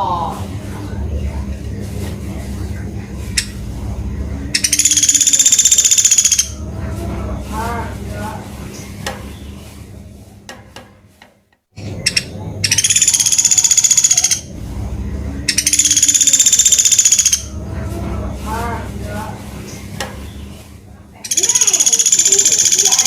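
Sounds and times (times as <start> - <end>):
soft low sounds: 0.0 - 21.3
woodpecker rattling trill: 0.5 - 10.8, 11.8 - 20.6, 21.2 - 23.0.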